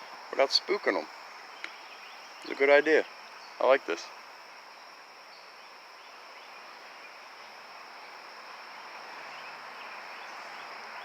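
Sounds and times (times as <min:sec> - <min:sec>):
faint outdoor background hiss: 0:00.0 - 0:11.0
high-pitched insect chorus: 0:00.0 - 0:11.0.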